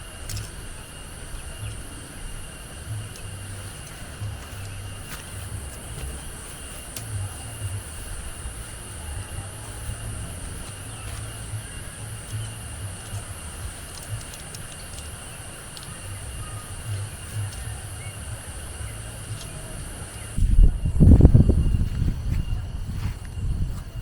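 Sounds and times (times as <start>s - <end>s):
high-pitched insect drone: 0.0s - 24.0s
wind buffeting microphone: 0.0s - 24.0s.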